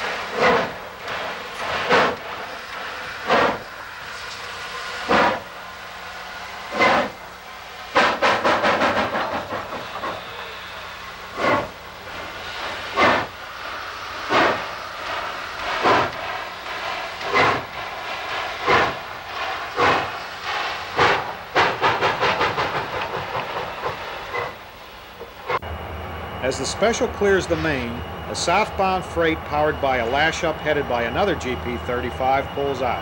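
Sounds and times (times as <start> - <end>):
steam locomotive exhaust chuffs: 0.0 - 33.0.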